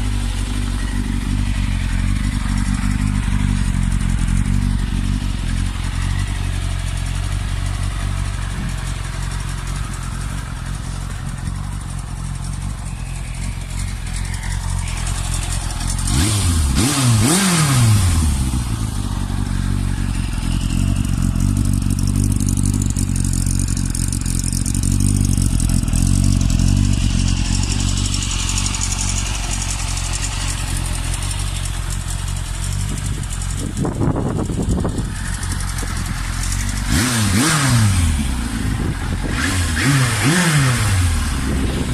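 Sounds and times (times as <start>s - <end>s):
motorcycle engine idling and revving: 0.0s - 41.9s.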